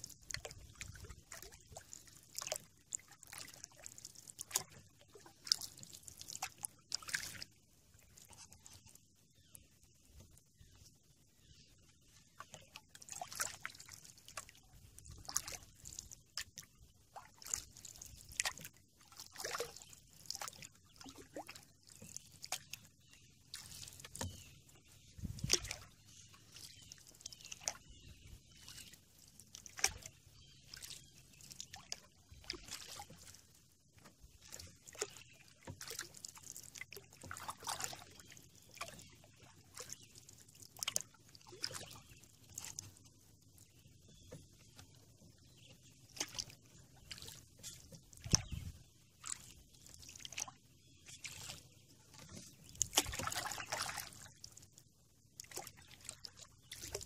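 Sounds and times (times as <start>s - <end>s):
paddle splashing water: 0.0s - 57.0s.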